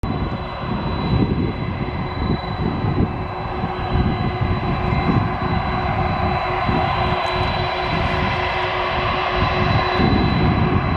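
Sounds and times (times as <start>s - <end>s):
jet engines whining: 0.0s - 10.9s
low rumble: 0.0s - 10.9s.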